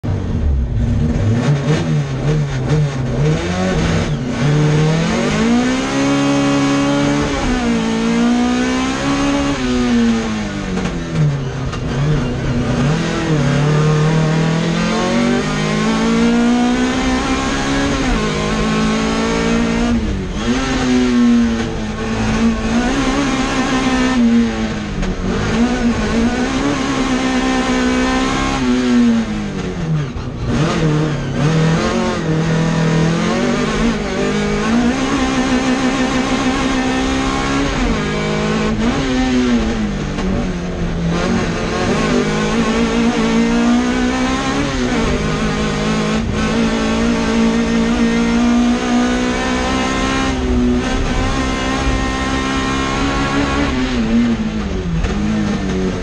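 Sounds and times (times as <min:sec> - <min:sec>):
car engine driven hard: 0:00.0 - 0:56.0.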